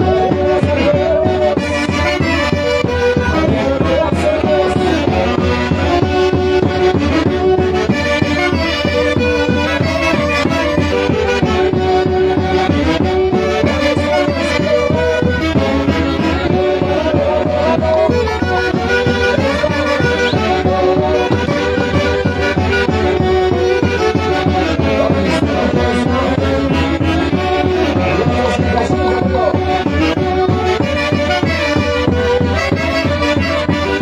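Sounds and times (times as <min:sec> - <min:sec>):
folk orchestra playing: 0:00.0 - 0:34.0.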